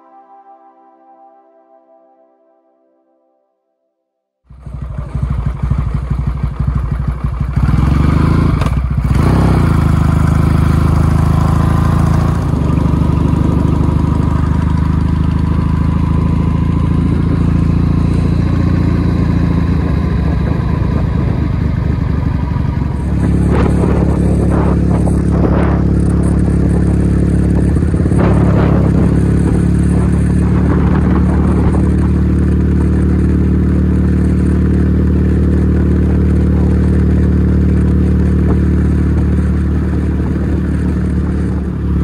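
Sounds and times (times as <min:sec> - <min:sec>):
motorcycle engine running: 0:04.5 - 0:42.0.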